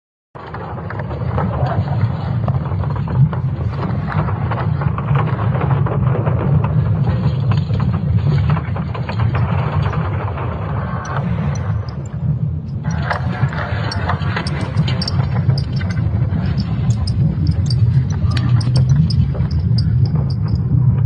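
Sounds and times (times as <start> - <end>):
creaking and crackling: 0.4 - 21.0
steady deep rumble: 0.7 - 21.0.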